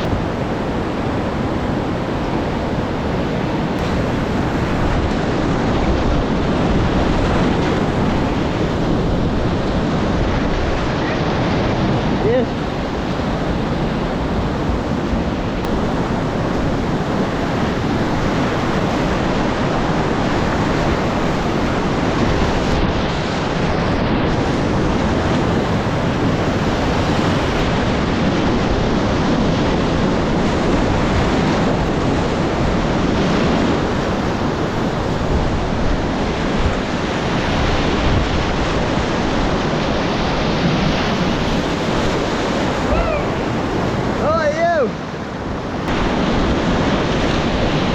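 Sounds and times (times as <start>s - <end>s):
rushing whitewater river: 0.0s - 47.9s
wind buffeting microphone: 0.0s - 47.9s.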